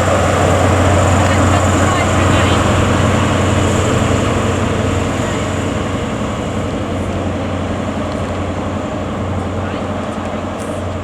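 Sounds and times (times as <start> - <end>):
passing train rumbling: 0.0 - 11.0.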